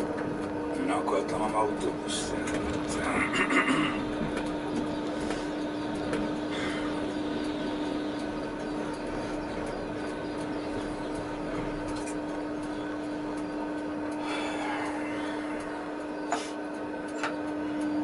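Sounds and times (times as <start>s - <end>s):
tram running hum: 0.0s - 18.0s.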